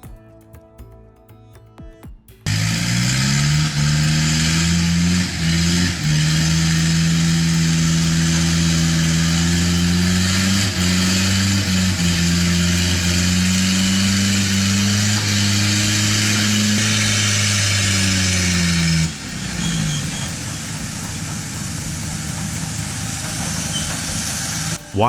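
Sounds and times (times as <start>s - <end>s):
heavy truck engine under load: 2.5s - 25.0s.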